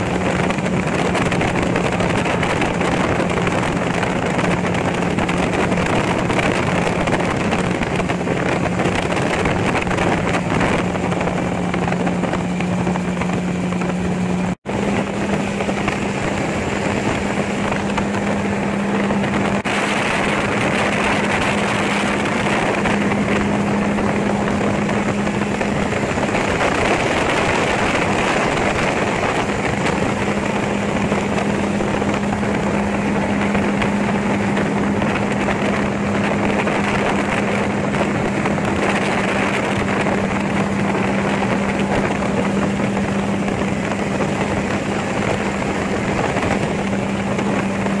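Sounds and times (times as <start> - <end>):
aircraft engine and propeller drone: 0.0 - 48.0
wind rushing: 0.0 - 48.0.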